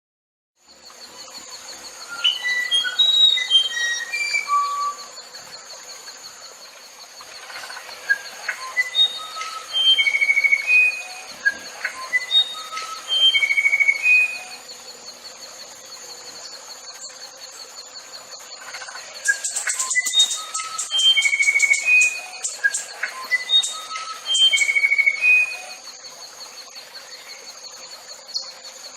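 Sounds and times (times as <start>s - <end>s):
songbird singing: 0.6s - 28.9s.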